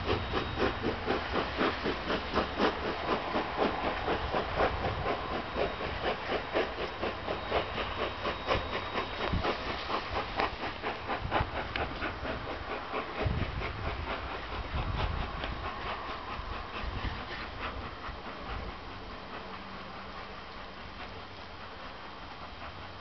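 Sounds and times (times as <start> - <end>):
steam hiss: 0.0 - 23.0
steam locomotive chuffing: 0.0 - 23.0.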